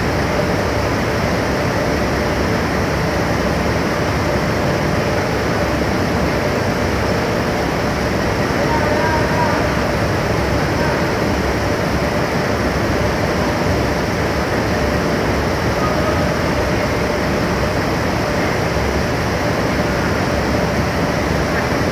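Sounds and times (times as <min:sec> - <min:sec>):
faint constant hum: 0:00.0 - 0:21.9.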